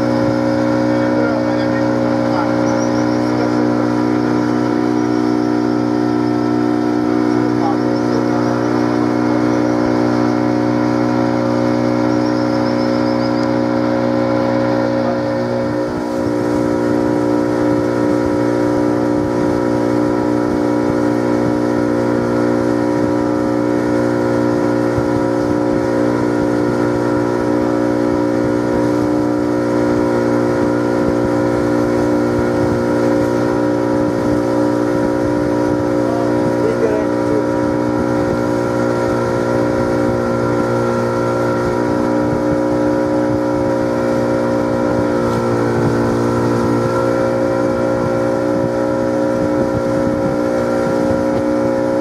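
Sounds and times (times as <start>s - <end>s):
boat motor running: 0.0s - 52.0s.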